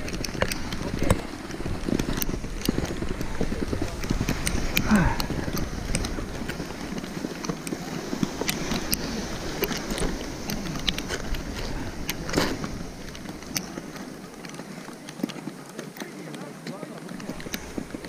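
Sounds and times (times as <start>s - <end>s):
small clicks and knocks: 0.0s - 18.0s
snowboard scraping over snow: 0.0s - 18.0s.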